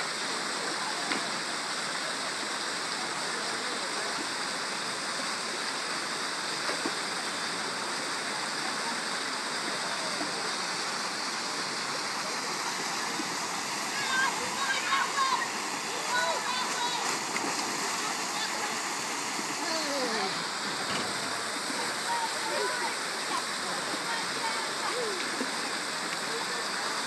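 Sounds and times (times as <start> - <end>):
water pouring into pool: 0.0 - 27.0
water rushing down waterslide: 0.0 - 27.0.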